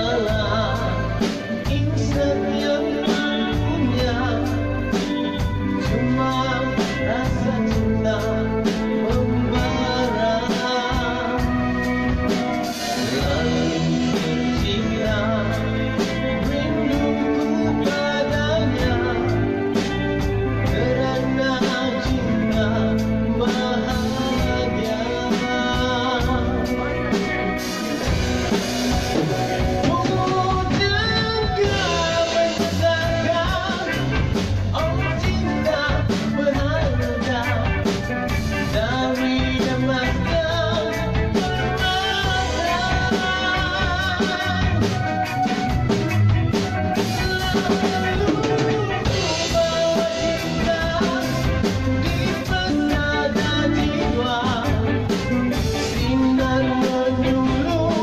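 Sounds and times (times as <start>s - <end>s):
bass guitar: 0.0s - 58.0s
drum kit: 0.0s - 58.0s
electric guitar: 0.0s - 58.0s
keyboard: 0.0s - 58.0s.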